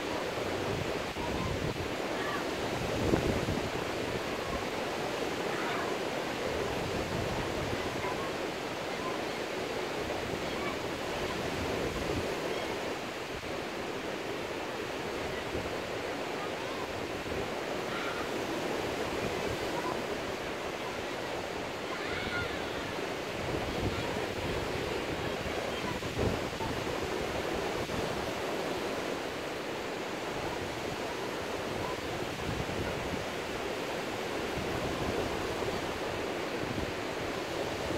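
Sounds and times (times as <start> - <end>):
surf breaking on beach: 0.0 - 37.9.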